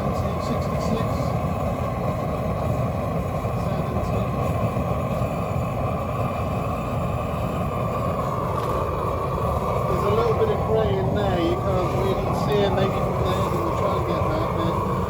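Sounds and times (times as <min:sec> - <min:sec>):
flame-thrower burner roaring: 0:00.0 - 0:15.0.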